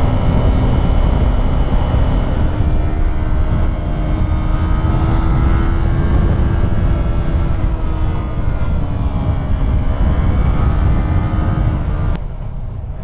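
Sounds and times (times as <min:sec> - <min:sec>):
motorcycle engine pulling: 0:00.0 - 0:12.2
heavy wind noise: 0:00.0 - 0:13.0.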